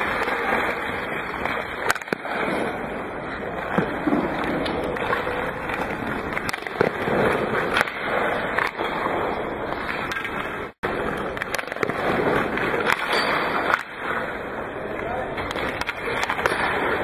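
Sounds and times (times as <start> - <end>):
skates scraping on ice: 0.0 - 17.0.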